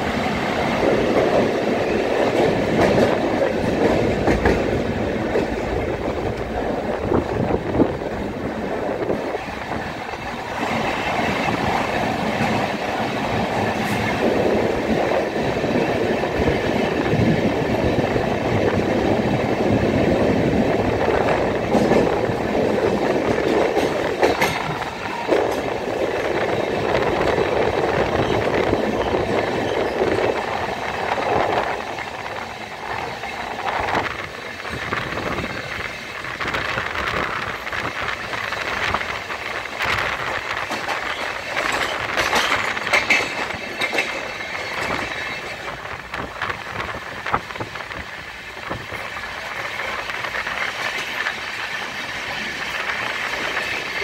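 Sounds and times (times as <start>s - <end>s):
train wheel-on-rail noise: 0.0s - 54.0s
wheels clicking over rail joints: 0.8s - 17.4s, 18.8s - 54.0s.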